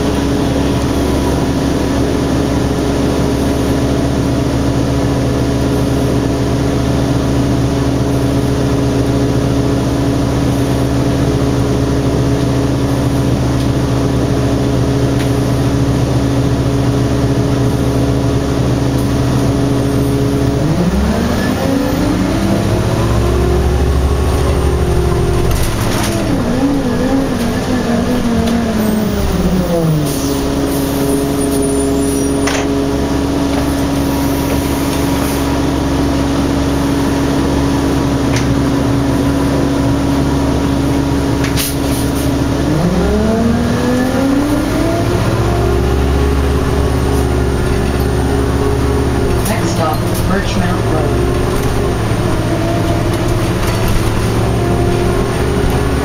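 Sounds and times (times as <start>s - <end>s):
bus engine idling and revving: 0.0s - 56.0s.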